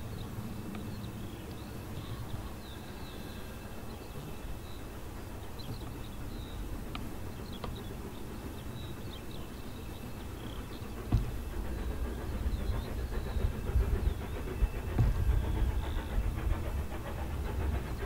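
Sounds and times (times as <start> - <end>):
small birds chirping: 0.0 - 18.0
steam locomotive rumble: 0.0 - 18.0.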